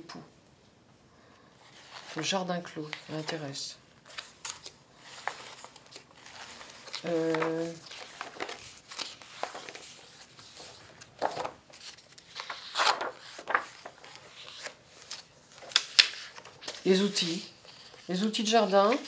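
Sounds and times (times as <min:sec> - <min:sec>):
book pages turning: 0:01.6 - 0:19.0.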